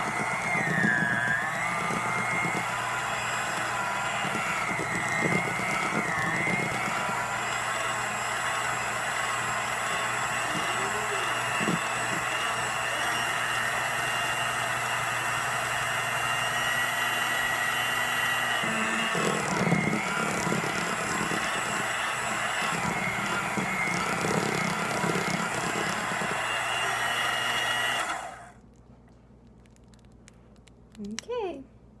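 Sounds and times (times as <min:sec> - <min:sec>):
hand mixer motor whine: 0:00.0 - 0:28.6.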